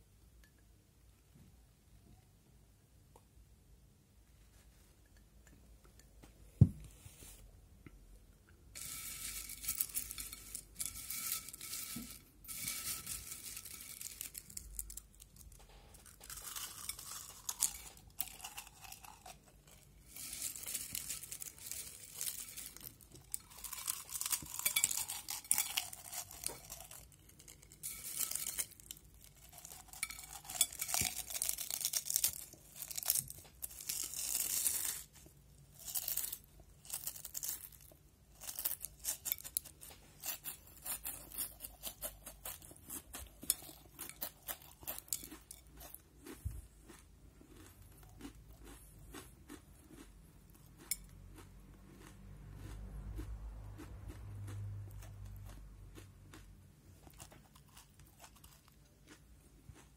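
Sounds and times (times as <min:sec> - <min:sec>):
potato chips crunching: 0:08.8 - 0:59.9.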